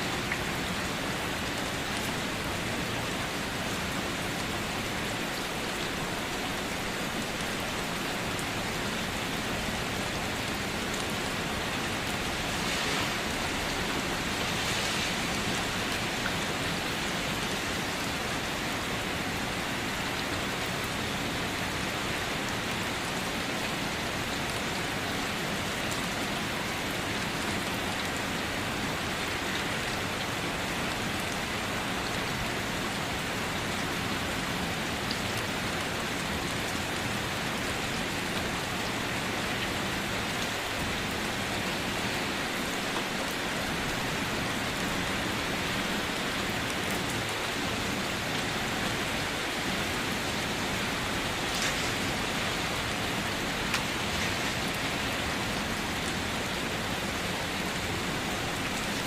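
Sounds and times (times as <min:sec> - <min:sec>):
individual raindrops: 0:00.0 - 0:59.0
steady rain patter: 0:00.0 - 0:59.0.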